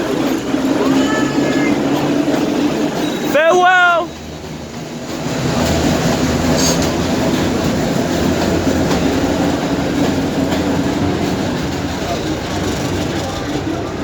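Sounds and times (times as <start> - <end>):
subway train rumbling on tracks: 0.0 - 14.0.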